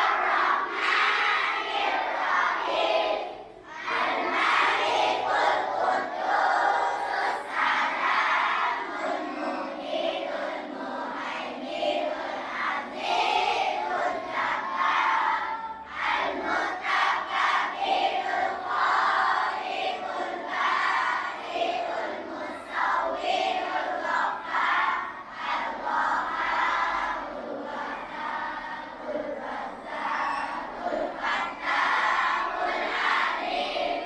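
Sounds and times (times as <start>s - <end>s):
children's voices raised together: 0.0s - 34.0s.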